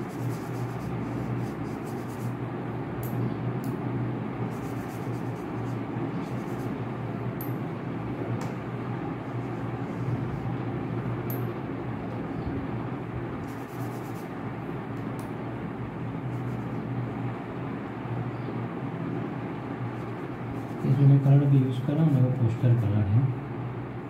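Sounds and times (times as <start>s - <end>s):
constant hiss: 0.0s - 3.2s, 4.4s - 11.5s, 12.7s - 18.3s, 19.0s - 23.4s
background hum and rumble: 0.0s - 24.0s.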